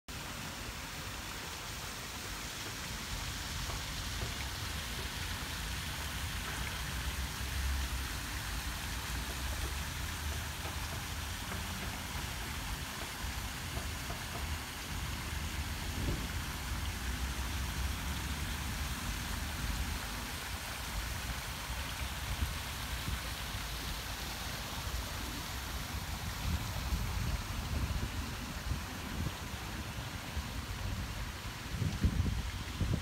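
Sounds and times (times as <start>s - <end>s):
fountain water splashing: 0.1s - 33.0s.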